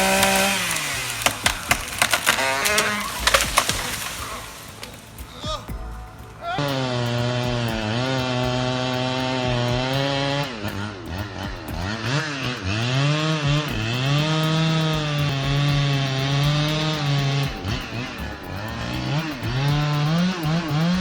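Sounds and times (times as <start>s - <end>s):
chainsaw engine at high revs: 0.0s - 5.4s, 6.6s - 21.0s.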